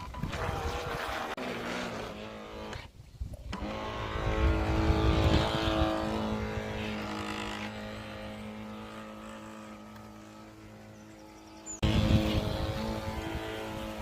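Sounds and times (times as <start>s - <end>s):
toy boat electric motor whine: 0.2s - 14.0s.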